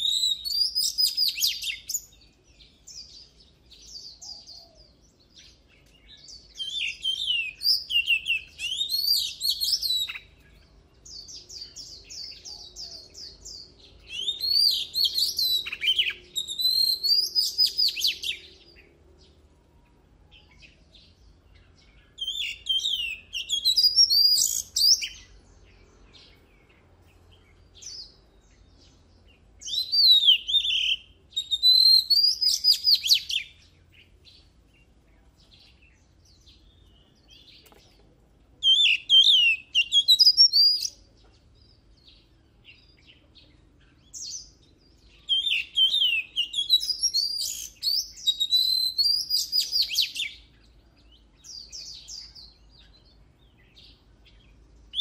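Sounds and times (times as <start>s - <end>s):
bird singing whistles and trills: 0.0s - 37.7s, 38.6s - 55.0s.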